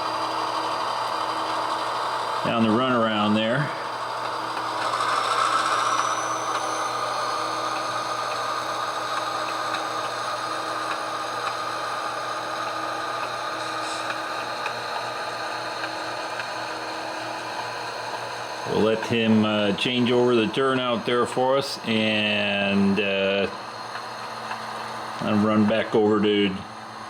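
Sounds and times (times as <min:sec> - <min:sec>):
model train motor whining: 0:00.0 - 0:27.0.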